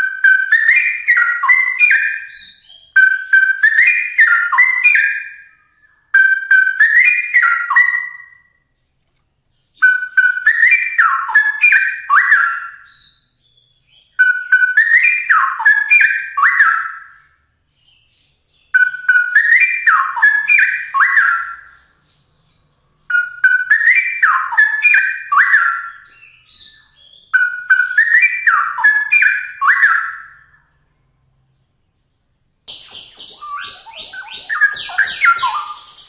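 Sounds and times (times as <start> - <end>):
bird singing whistled phrases: 0.0 - 8.6, 9.7 - 22.2, 23.0 - 30.8, 32.7 - 36.0.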